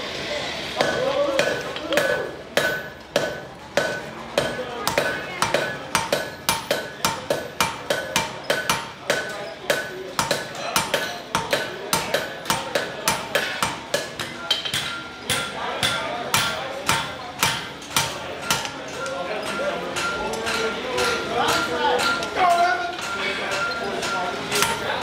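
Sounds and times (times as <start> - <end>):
anvil ringing: 0.8 - 25.0
hammer striking hot steel: 0.8 - 25.0.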